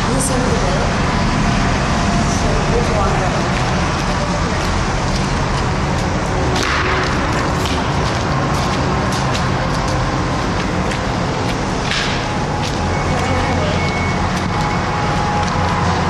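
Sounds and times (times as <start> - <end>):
traffic rumble in tunnel: 0.0 - 16.0
footsteps crunching on debris: 3.0 - 16.0.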